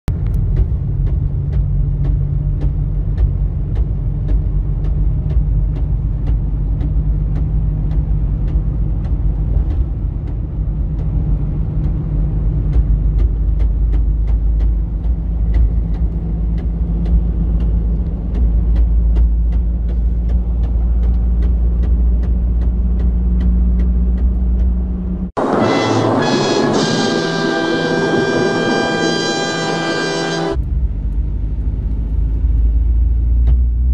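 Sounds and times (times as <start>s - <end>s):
vehicle cabin drone: 0.1s - 33.9s.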